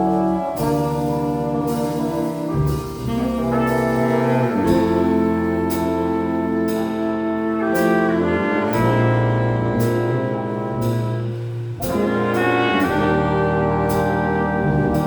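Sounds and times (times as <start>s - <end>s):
jazz ensemble playing: 0.0s - 15.0s.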